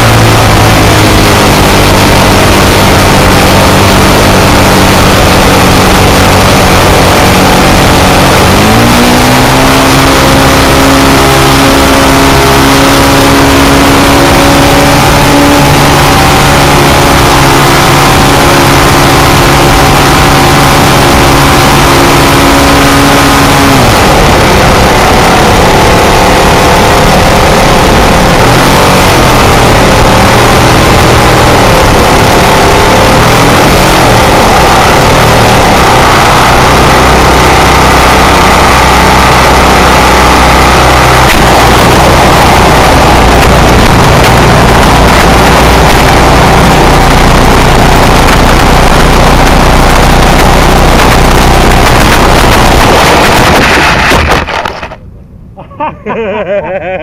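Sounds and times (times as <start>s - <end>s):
model plane propeller engine: 0.0s - 55.0s.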